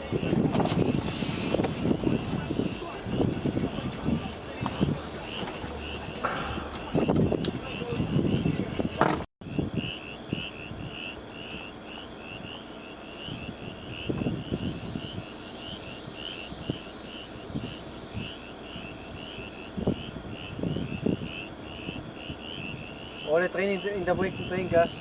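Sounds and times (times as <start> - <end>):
high pulsing chirp: 0.0 - 25.0
insects chirping: 0.0 - 25.0
low rumbling: 0.0 - 25.0.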